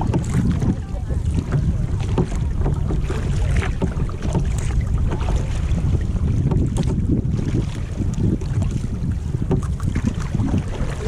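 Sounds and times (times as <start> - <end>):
water lapping around kayak: 0.0 - 11.0
wind buffeting microphone: 0.0 - 11.0.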